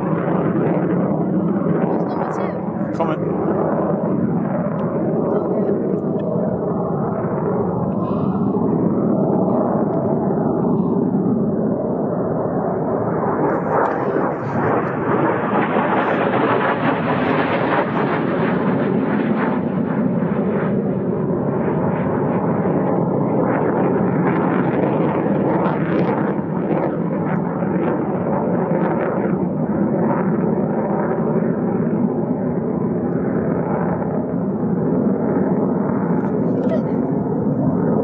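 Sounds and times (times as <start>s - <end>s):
jet engine roar: 0.0s - 38.0s.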